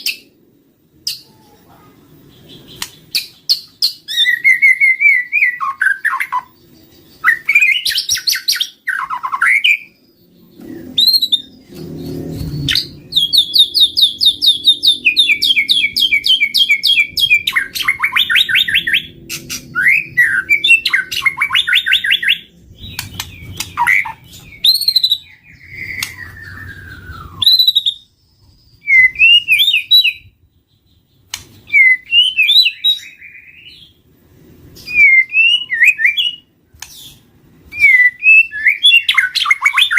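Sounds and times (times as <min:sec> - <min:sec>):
bird singing whistles and trills: 0:02.4 - 0:34.0, 0:34.8 - 0:39.9.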